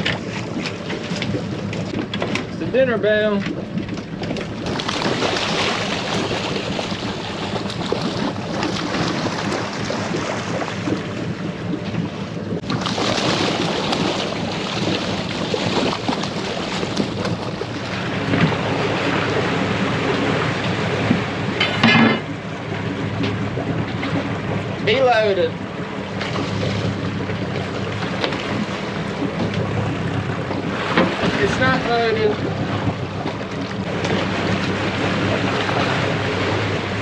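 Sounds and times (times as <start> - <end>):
boat engine humming: 0.0 - 37.0
wind and water rushing: 0.0 - 37.0.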